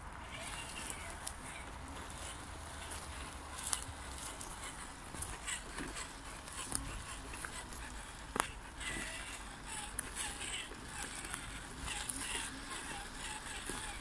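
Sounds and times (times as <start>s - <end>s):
footsteps on forest floor: 0.2s - 14.0s.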